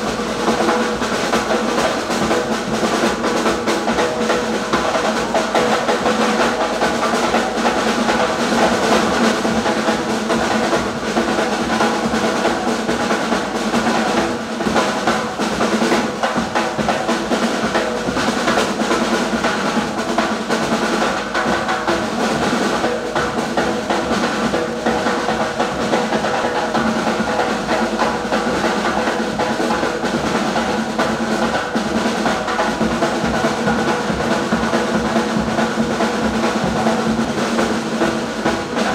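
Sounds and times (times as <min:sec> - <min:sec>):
snare and bass drums playing: 0:00.0 - 0:38.9.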